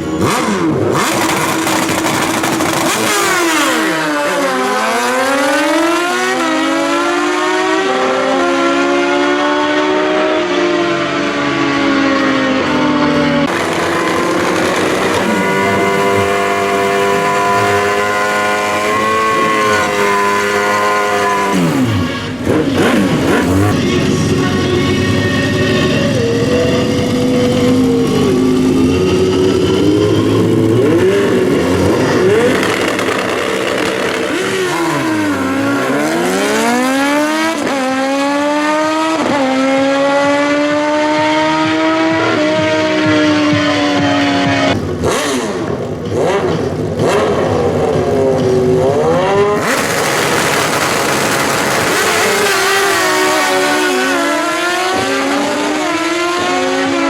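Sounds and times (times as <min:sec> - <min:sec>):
racing motorcycle engines revving: 0:00.0 - 0:57.0.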